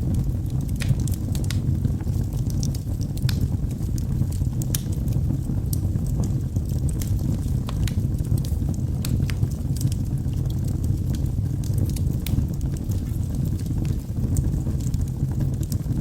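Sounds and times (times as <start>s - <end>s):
crackles and pops of logs: 0.0s - 16.0s
low rumble of flames: 0.0s - 16.0s.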